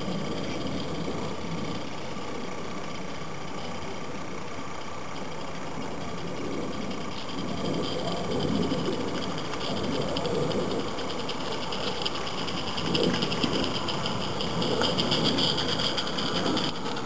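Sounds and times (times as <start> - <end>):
steam locomotive chuffing: 0.0 - 17.0
train clattering along track: 0.0 - 17.0.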